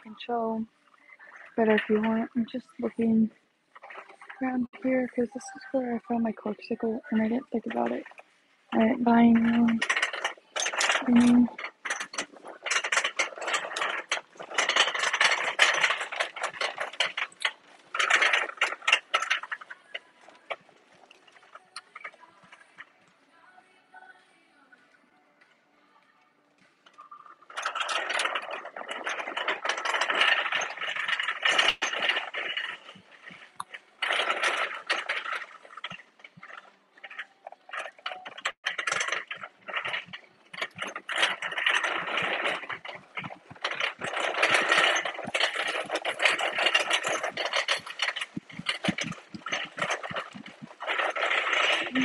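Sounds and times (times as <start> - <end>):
shopping cart rattling on tiles: 0.0 - 23.0, 26.9 - 52.0.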